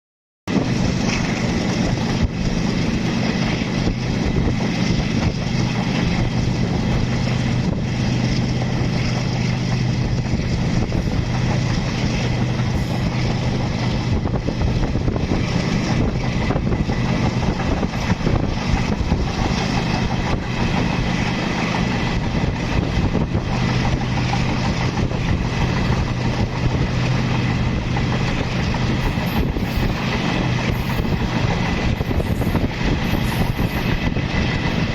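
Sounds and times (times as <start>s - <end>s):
train engine drone: 0.5s - 34.9s
train rumbling: 0.5s - 34.9s.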